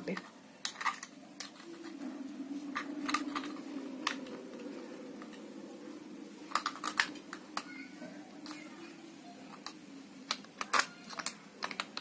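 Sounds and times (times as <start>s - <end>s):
steady low hum: 0.6s - 10.6s.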